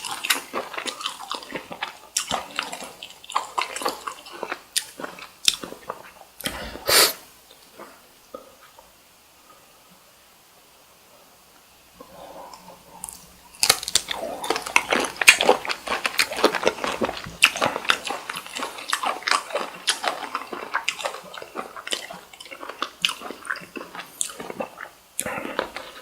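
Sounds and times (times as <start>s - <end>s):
mouth chewing sounds: 0.0s - 8.9s, 12.0s - 26.0s.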